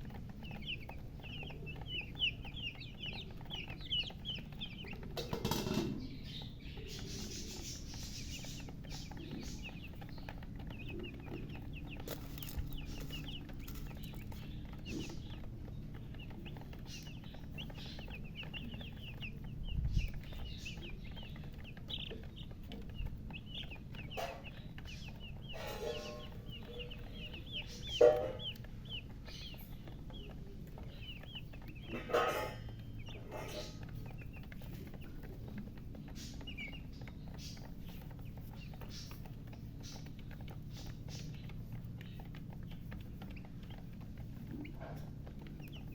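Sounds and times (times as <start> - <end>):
chicks peeping: 0.0 - 45.9.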